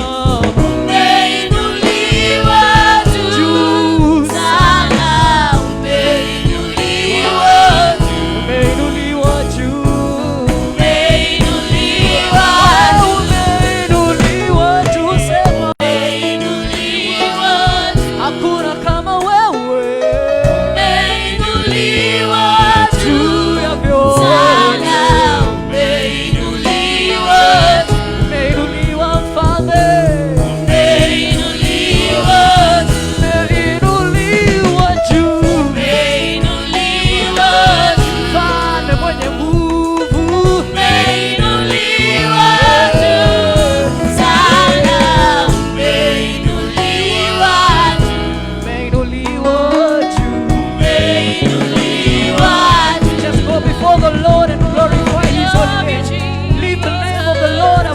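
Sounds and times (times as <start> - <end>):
gospel voices singing: 0.0 - 57.9
instrumental backing: 0.0 - 57.9.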